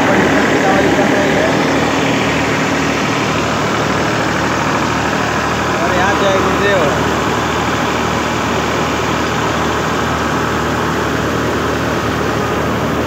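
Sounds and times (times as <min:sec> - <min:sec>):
diesel tractor engine: 0:00.0 - 0:13.0
thresher drum and blower: 0:00.0 - 0:13.0.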